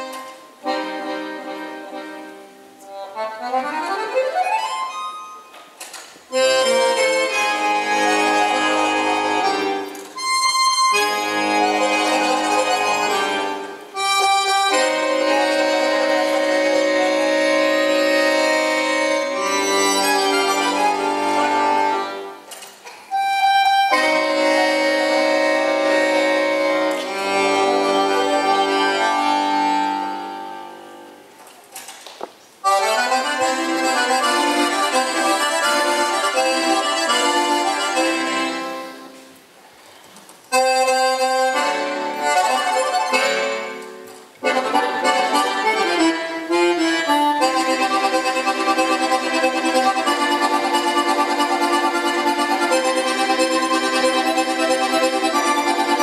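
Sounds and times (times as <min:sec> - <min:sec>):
solo accordion playing: 0:00.0 - 0:05.5, 0:06.3 - 0:22.5, 0:23.1 - 0:31.3, 0:32.6 - 0:39.6, 0:40.5 - 0:56.0.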